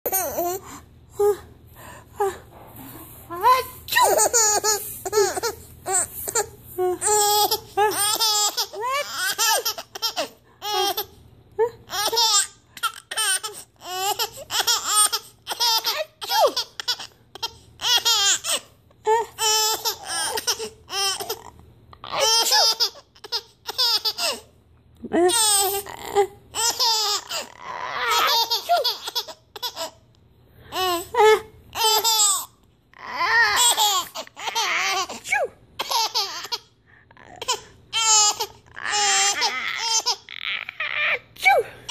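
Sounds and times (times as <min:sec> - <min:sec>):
baby giggling: 0:03.6 - 0:11.2, 0:11.8 - 0:24.4, 0:25.3 - 0:30.0, 0:30.8 - 0:32.5, 0:33.1 - 0:36.7, 0:37.3 - 0:41.2.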